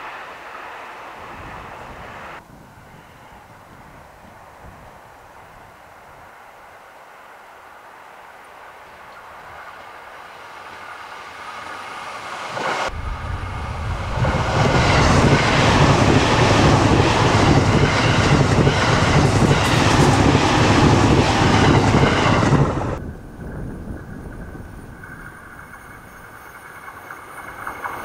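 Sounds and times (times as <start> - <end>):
electric train passing at speed: 0.0 - 28.0.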